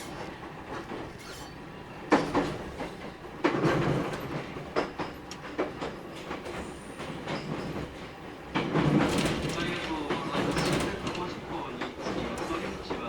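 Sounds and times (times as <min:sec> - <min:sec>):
train rumble: 0:00.0 - 0:13.0
train wheels clacking over rail joints: 0:00.0 - 0:13.0.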